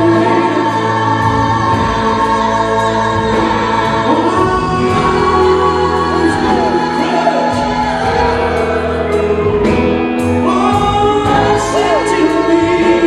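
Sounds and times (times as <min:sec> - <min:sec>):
backing singers holding chords: 0:00.0 - 0:13.0
lead vocal singing: 0:00.0 - 0:13.0
live band playing slow ballad: 0:00.0 - 0:13.0.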